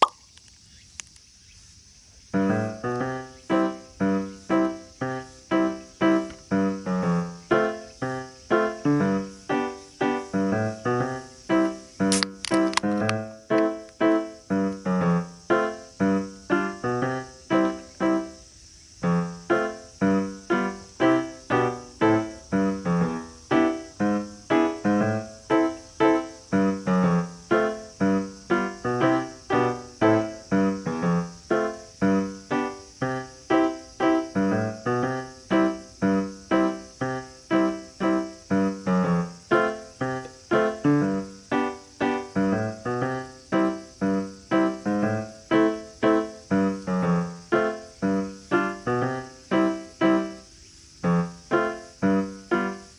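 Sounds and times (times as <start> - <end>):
piano playing: 2.4 - 52.9.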